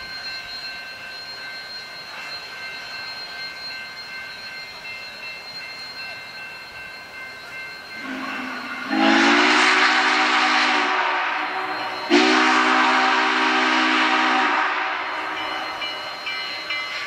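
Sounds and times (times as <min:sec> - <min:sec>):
high steady ringing tone: 0:00.0 - 0:17.0
steam locomotive rumble and hiss: 0:00.0 - 0:17.0.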